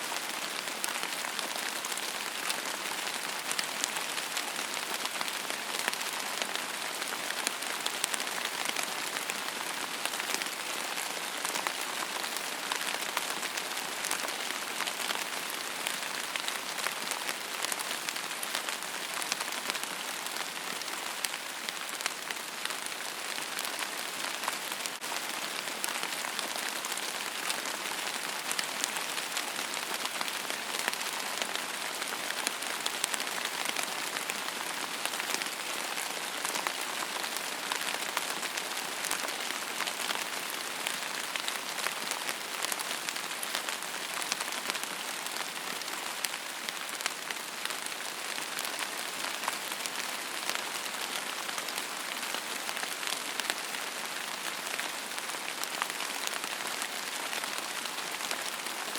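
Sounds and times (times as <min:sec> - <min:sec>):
rain on a hard surface: 0:00.0 - 0:58.9.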